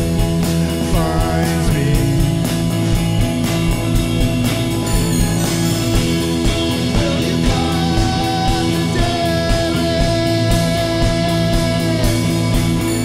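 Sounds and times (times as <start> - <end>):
drums keeping a beat: 0.0 - 13.0
electric guitar: 0.0 - 13.0.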